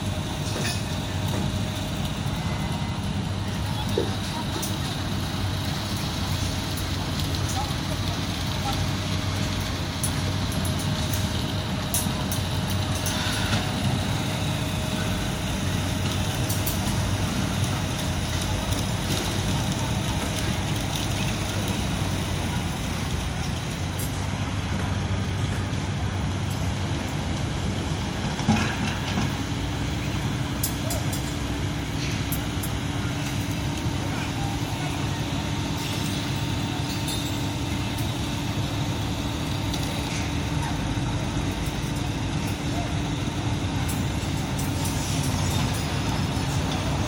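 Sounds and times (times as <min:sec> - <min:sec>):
heavy machinery diesel engines: 0:00.0 - 0:47.0.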